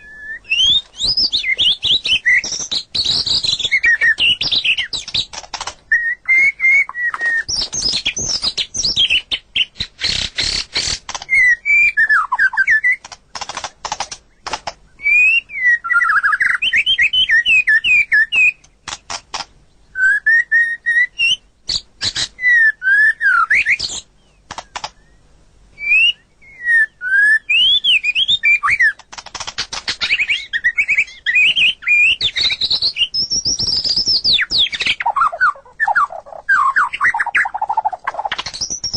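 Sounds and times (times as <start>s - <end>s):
songbird whistling and clicking: 0.0s - 25.2s, 25.8s - 38.9s.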